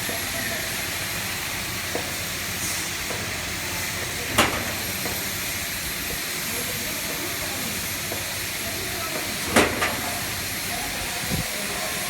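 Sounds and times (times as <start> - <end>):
laser cutting machine hissing: 0.0 - 12.0.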